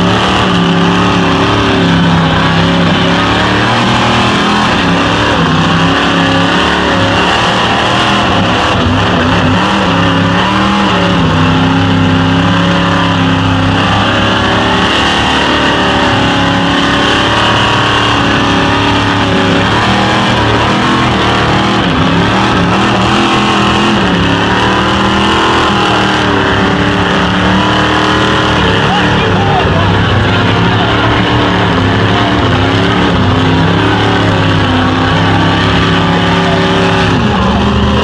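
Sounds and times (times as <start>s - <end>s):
truck engine running at high revs: 0.0s - 38.0s.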